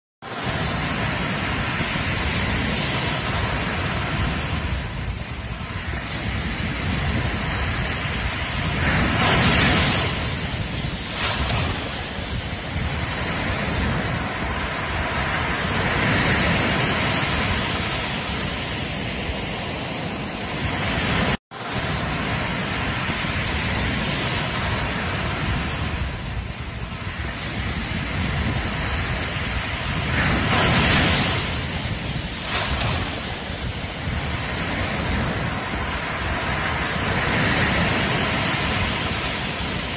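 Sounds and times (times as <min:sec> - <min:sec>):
surf breaking on beach: 0:00.2 - 0:39.9
wind rumbling on microphone: 0:00.2 - 0:39.9.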